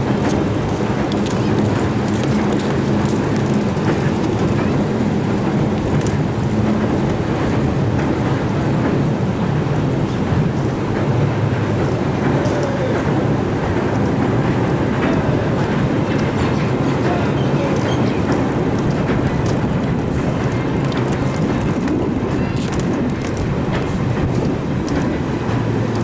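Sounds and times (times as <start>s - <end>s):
train rumbling across bridge: 0.0s - 26.0s.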